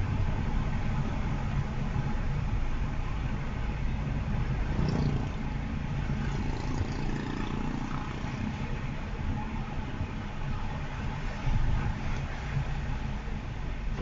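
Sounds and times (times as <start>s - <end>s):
car driving rumble and hiss: 0.0s - 14.0s.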